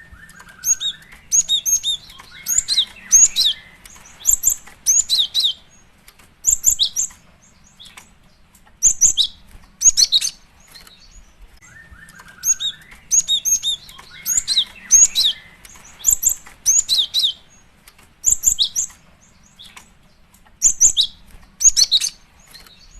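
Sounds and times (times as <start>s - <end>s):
bird high chirps: 0.0s - 22.9s.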